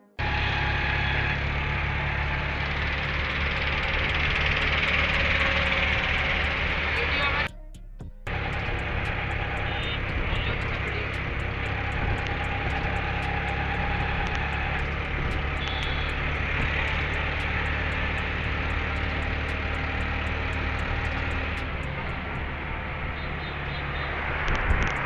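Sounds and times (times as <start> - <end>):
road and traffic noise: 0.0 - 25.0
vehicle engine hum: 0.0 - 25.0.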